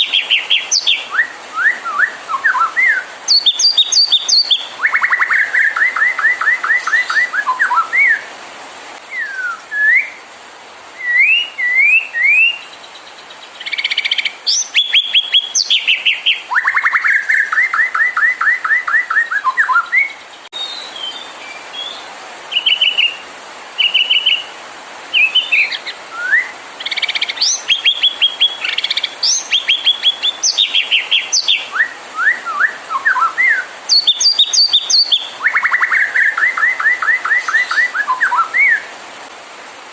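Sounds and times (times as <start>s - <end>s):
bird singing: 0.0s - 8.3s, 9.1s - 10.2s, 11.0s - 23.2s, 25.2s - 38.9s.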